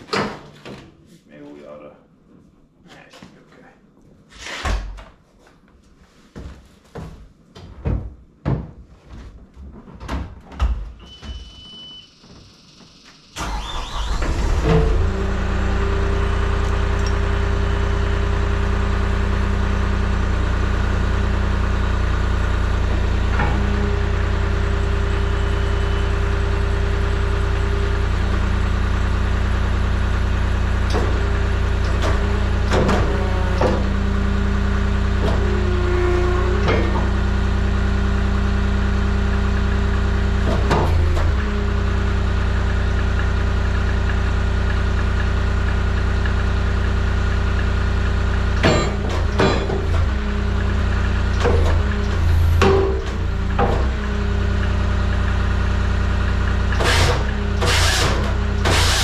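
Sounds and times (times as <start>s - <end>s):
hydraulics working: 10.6s - 59.0s
skid steer engine running: 11.1s - 59.0s.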